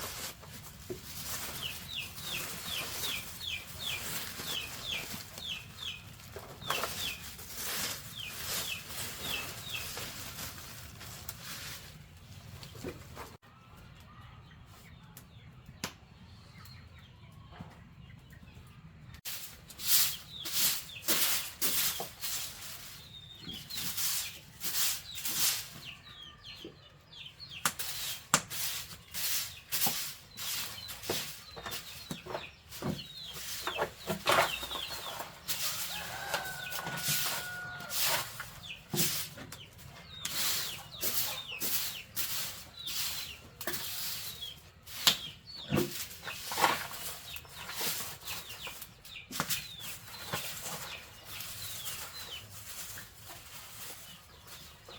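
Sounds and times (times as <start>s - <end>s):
chickens rustling and flapping wings: 0.0s - 13.4s, 19.2s - 26.1s, 27.5s - 54.9s
chicken clucking: 0.0s - 19.2s, 28.9s - 54.9s.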